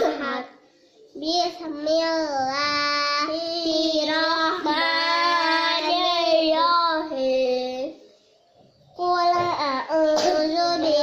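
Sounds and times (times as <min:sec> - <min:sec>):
child chanting recitation: 0:00.0 - 0:08.0, 0:09.0 - 0:11.0.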